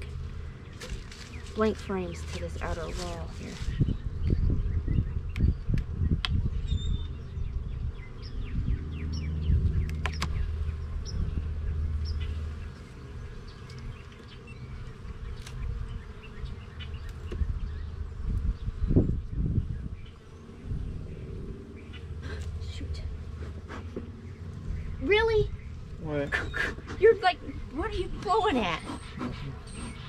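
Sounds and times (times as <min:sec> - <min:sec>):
bees buzzing: 0:00.0 - 0:05.3, 0:05.9 - 0:30.0.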